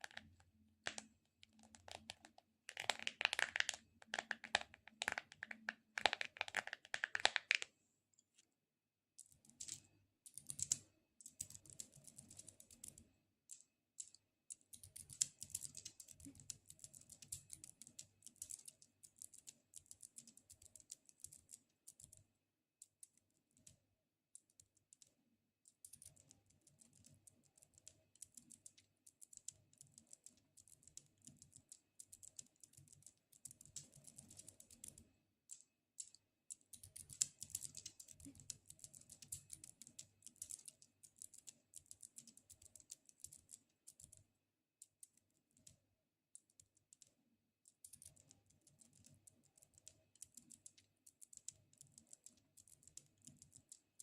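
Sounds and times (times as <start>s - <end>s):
sticky crackles and clicks: 0.0s - 7.7s, 9.2s - 23.8s, 24.4s - 45.8s, 46.4s - 54.0s.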